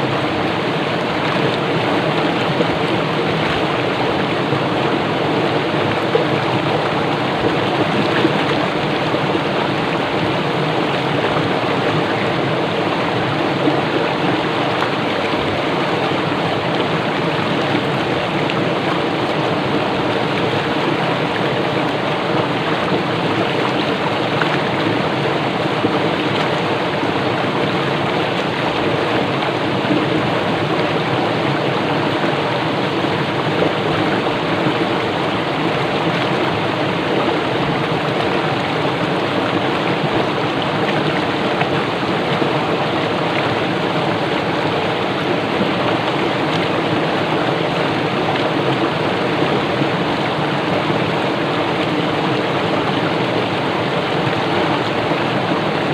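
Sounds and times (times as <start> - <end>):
stream rushing over rocks: 0.0 - 55.9.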